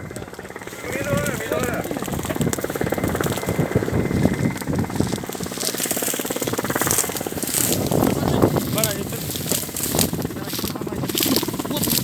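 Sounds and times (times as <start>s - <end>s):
helicopter engine: 0.0s - 12.0s
helicopter rotor beating: 0.0s - 12.0s.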